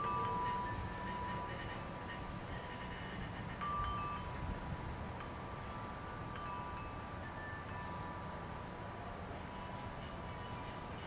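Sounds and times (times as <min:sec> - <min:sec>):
wind chimes ringing: 0:00.0 - 0:11.0.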